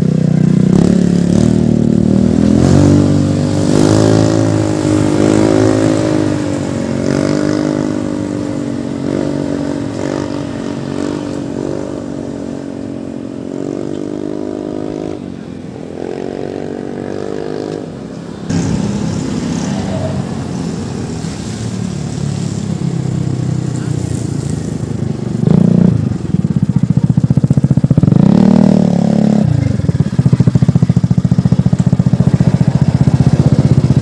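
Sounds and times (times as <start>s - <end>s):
motorcycle riding away: 0.0s - 34.0s.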